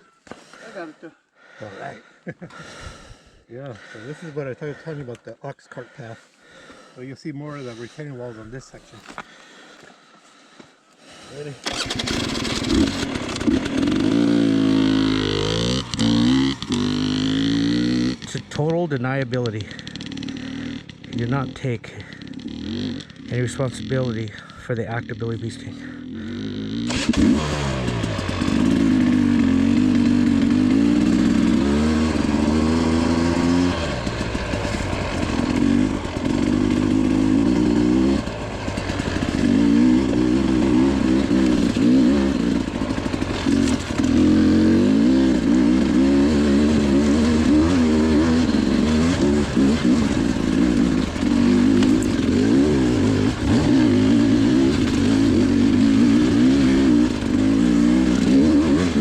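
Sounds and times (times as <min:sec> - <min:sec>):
dirt bike engine revving: 0:11.3 - 0:59.0.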